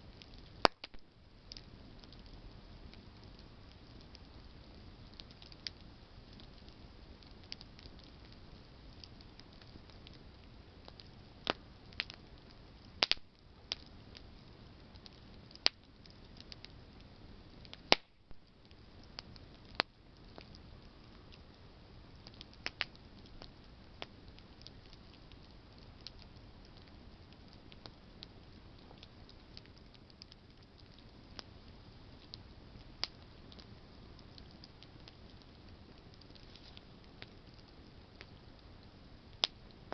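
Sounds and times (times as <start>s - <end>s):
campfire crackling and snapping: 0.0s - 39.9s
low steady fire hiss: 0.0s - 39.9s.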